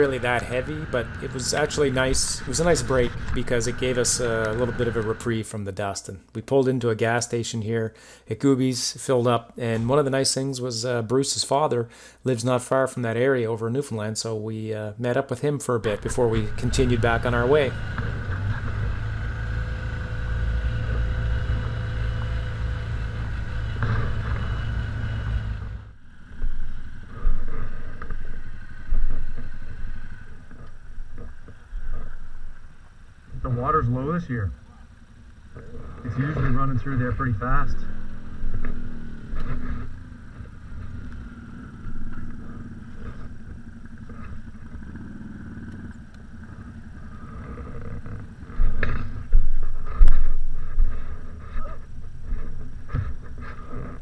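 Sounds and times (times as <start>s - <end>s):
another vehicle engine: 0.0s - 5.3s, 15.8s - 54.0s
utility vehicle engine running: 0.0s - 5.3s, 15.8s - 54.0s.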